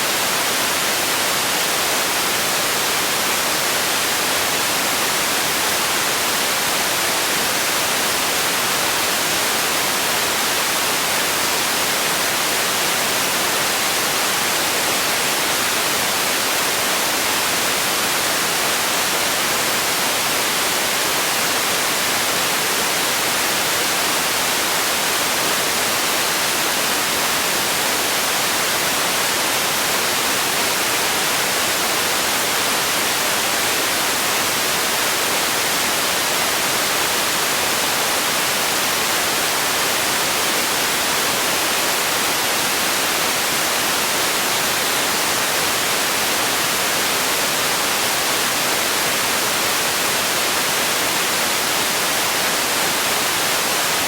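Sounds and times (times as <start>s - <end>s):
steady static hiss: 0.0s - 54.0s.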